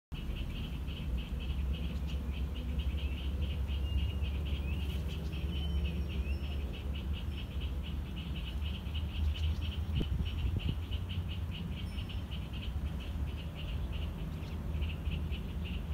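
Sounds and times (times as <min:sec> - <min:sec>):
rapid pulsing animal calls: 0:00.2 - 0:15.9.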